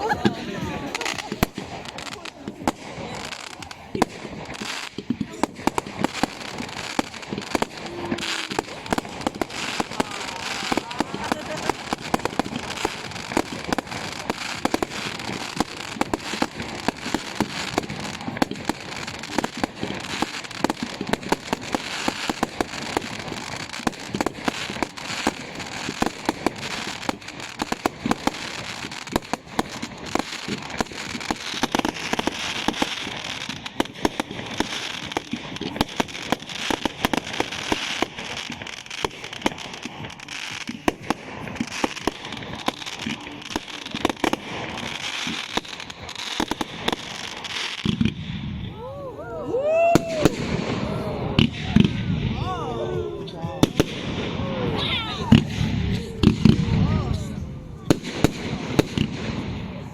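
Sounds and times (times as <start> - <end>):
hissing crackle: 0.0 - 52.4
fireworks bangs and crackles: 0.0 - 59.9.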